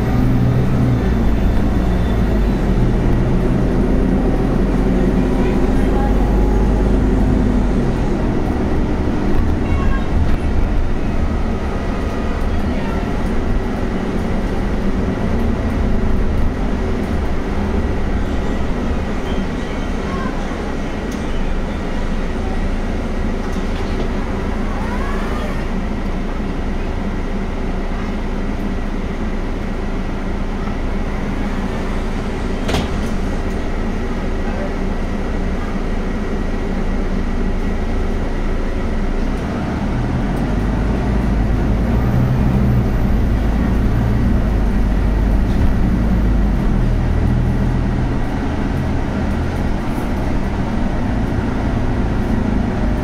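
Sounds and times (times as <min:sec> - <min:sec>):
bus engine rumble: 0:00.0 - 0:53.0
road noise: 0:00.0 - 0:53.0.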